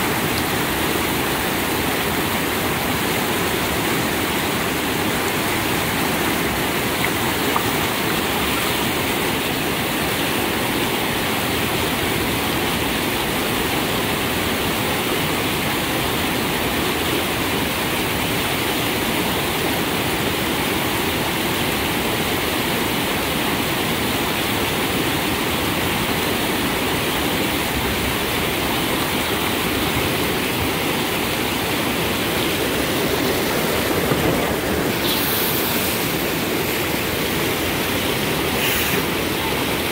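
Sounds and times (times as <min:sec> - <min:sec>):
river rapids rushing over rocks: 0:00.0 - 0:39.9.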